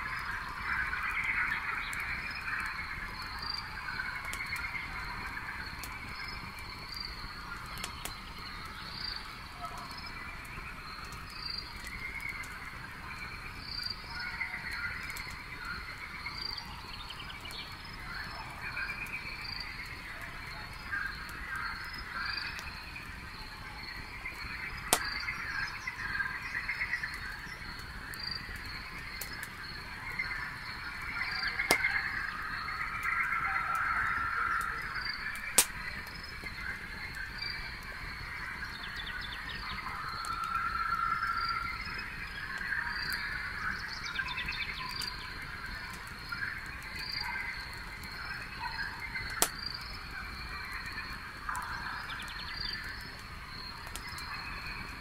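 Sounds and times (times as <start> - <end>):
campfire crackling: 0.0 - 55.0
campfire pops: 0.0 - 55.0
frogs calling: 0.0 - 55.0
insects chirping: 0.1 - 55.0.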